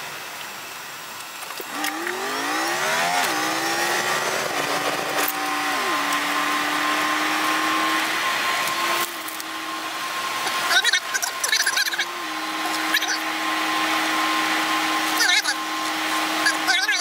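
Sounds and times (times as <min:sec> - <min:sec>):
truck engine accelerating: 0:01.6 - 0:17.0.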